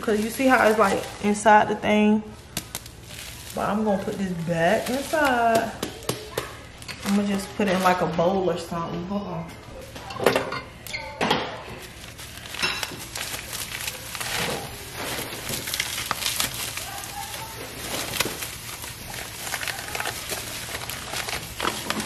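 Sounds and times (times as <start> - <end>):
plastic wrapping crinkling: 0.0 - 8.8, 10.7 - 22.0.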